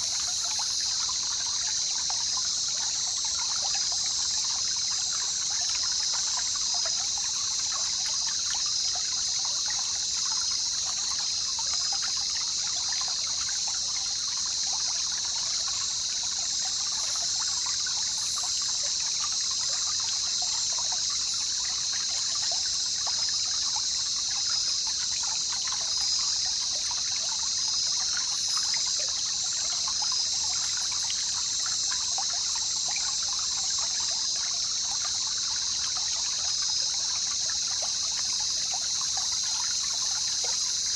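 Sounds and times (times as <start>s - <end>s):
river trickling and babbling: 0.0s - 40.9s.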